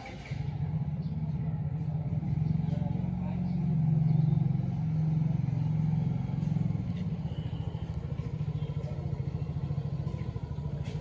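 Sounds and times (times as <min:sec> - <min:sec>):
motor scooter engine running: 0:00.0 - 0:11.0.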